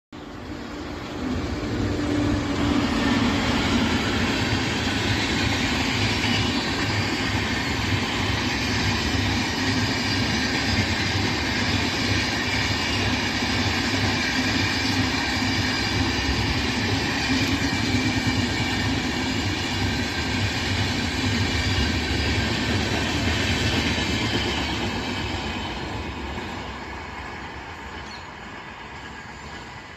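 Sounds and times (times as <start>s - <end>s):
train wheels and coaches rumbling: 0.2s - 29.9s.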